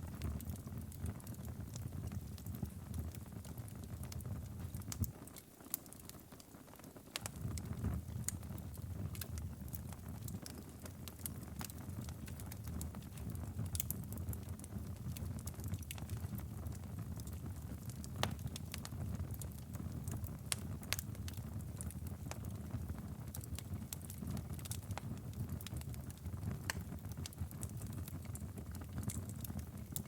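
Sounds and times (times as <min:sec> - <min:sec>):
low rumble of flames: 0:00.0 - 0:06.5, 0:07.1 - 0:30.0
wood fire crackling and popping: 0:00.0 - 0:30.0.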